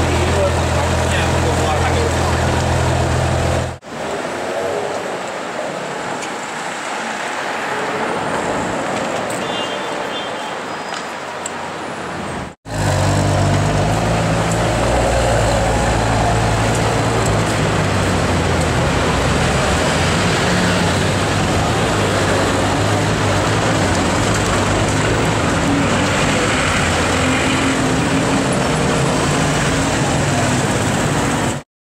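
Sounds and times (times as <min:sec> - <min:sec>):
street traffic noise: 0:00.0 - 0:31.6.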